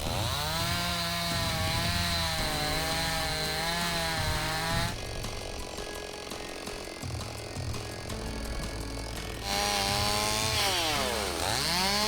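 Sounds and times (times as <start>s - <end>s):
chainsaw cutting tree trunk: 0.0s - 12.0s.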